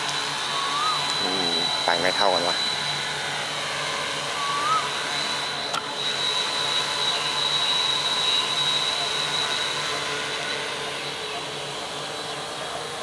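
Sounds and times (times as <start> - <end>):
drone propellers whirring: 0.0 - 13.0.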